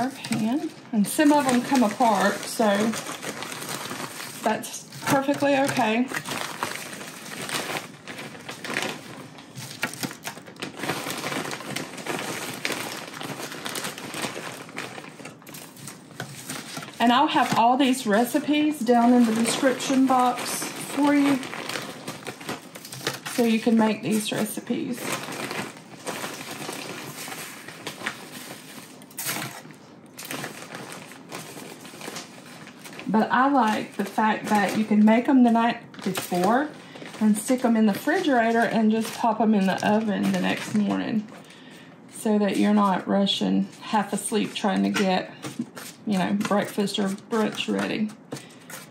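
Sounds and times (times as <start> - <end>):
plastic bag crinkling: 0.0 - 48.9.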